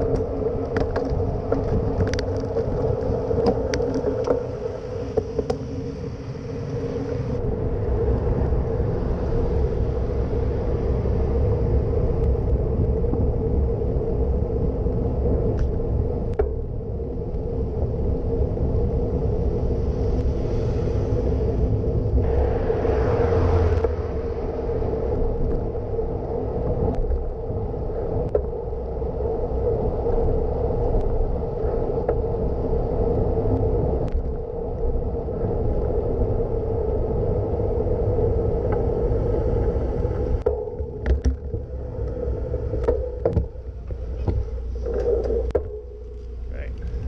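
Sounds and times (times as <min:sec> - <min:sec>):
low rumble: 0:00.0 - 0:47.0
wind and road noise: 0:00.0 - 0:47.0.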